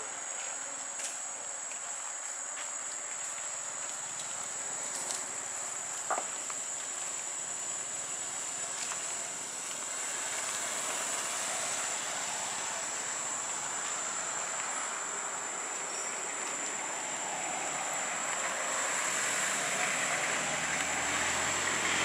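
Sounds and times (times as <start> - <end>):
high-pitched insect drone: 0.0 - 22.0
steady hiss: 0.0 - 22.0.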